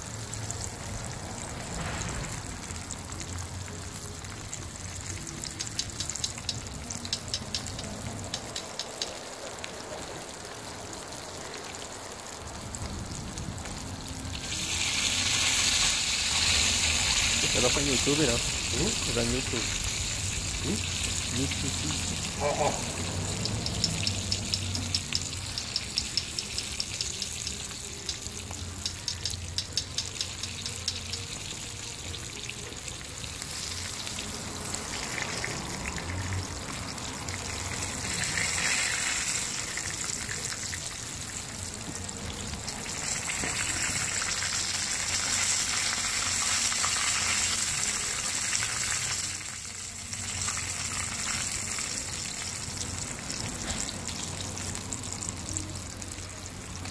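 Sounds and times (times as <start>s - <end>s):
fish sizzling in hot oil: 0.0s - 56.9s.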